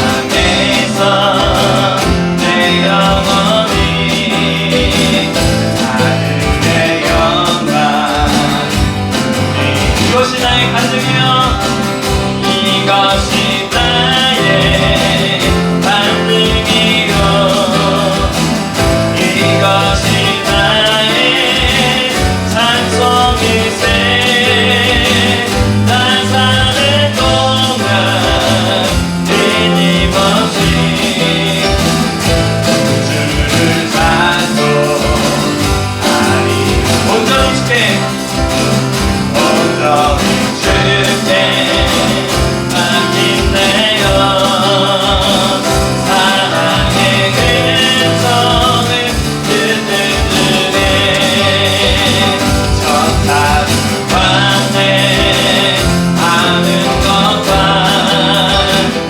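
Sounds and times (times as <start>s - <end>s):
person singing lead vocal: 0.0s - 59.0s
worship band playing a hymn: 0.0s - 59.0s.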